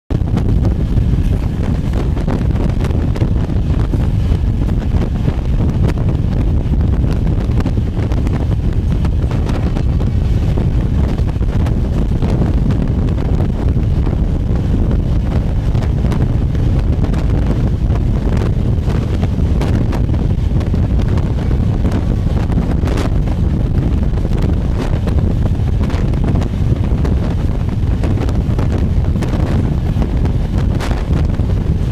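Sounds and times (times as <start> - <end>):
express train rumble: 0.1 - 31.9
wind buffeting microphone: 0.1 - 31.9.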